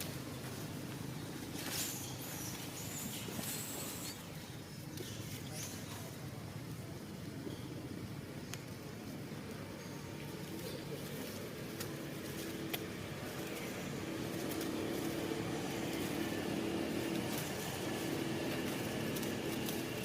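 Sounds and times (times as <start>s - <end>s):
vehicle engine humming: 0.0s - 5.4s, 6.0s - 20.0s.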